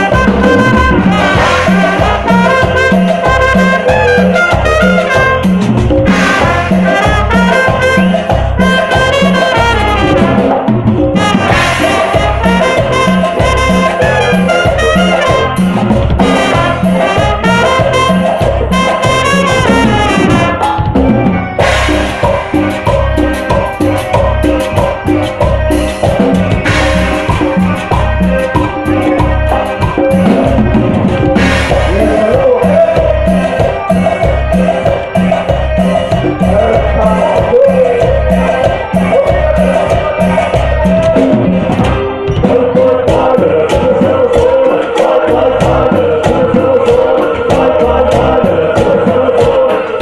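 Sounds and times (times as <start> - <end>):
accordion: 0.0 - 50.0
drum kit: 0.0 - 50.0
steady bass beat: 0.0 - 50.0
trumpets: 0.0 - 50.0.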